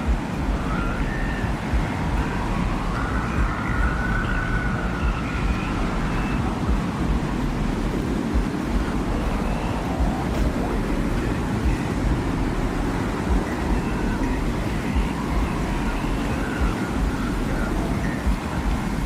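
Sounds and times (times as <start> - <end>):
faint high whistling tones: 0.0 - 19.0
low wind rumble: 0.0 - 19.0.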